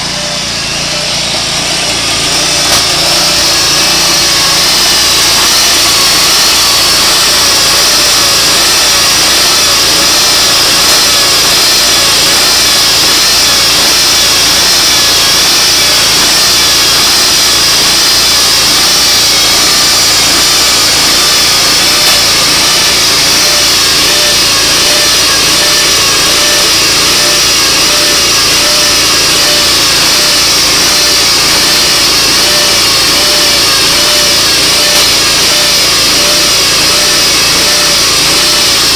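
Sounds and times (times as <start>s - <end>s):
sawmill engine running under load: 0.0s - 38.9s.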